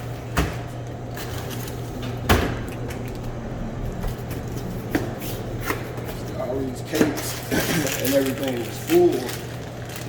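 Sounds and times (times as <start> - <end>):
vending machine low hum: 0.0 - 10.0.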